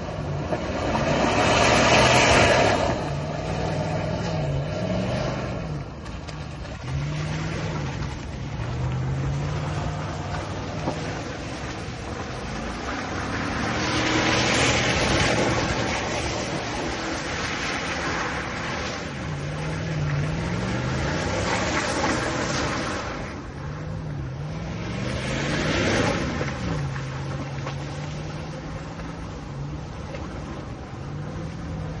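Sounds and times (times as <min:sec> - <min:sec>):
pickup engine revving: 0:00.0 - 0:32.0.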